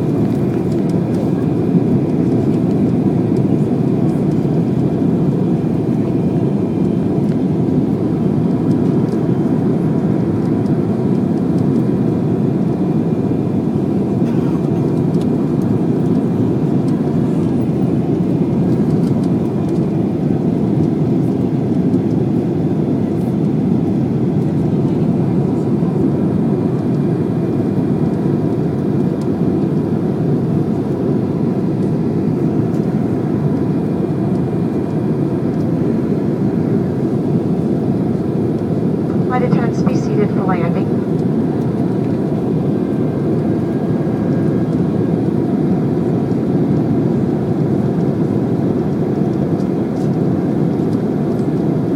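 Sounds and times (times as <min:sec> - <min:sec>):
jet engines and rushing air: 0:00.0 - 0:51.9.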